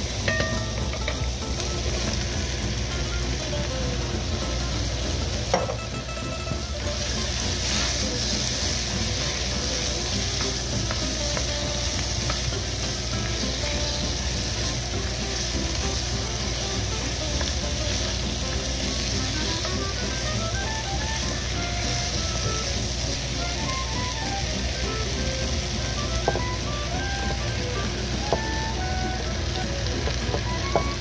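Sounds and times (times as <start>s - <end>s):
vegetables sizzling in a pot: 0.0s - 31.0s.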